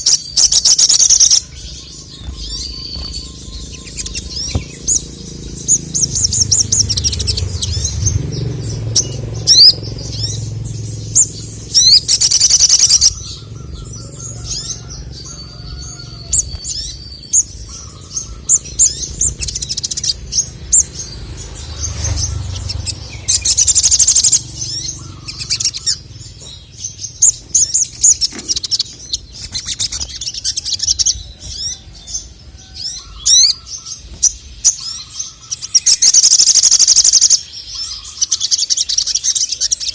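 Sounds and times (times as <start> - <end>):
bird singing high chirps: 0.0 - 39.9.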